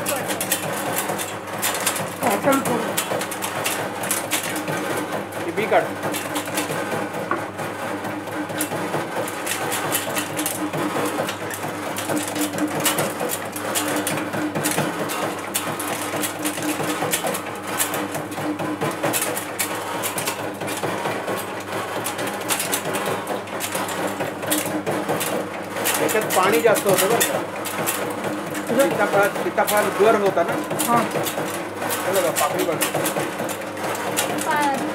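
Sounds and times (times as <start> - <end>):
machine motor hum: 0.0 - 34.9.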